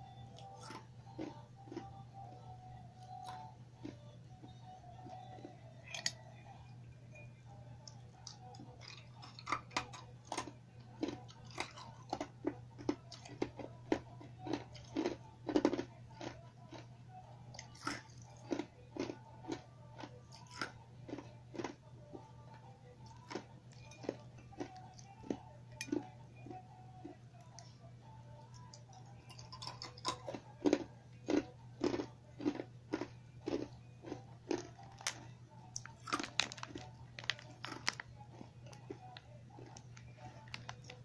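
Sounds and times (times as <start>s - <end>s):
ice cubes being chewed: 0.3s - 6.3s, 7.8s - 27.7s, 28.3s - 41.0s.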